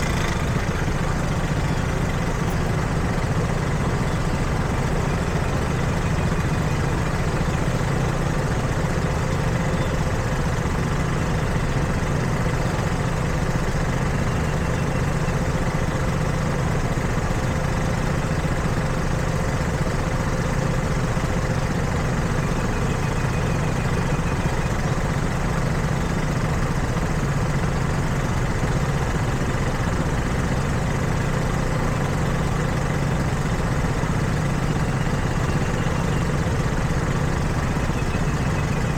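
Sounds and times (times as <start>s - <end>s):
street traffic hum: 0.0s - 38.9s.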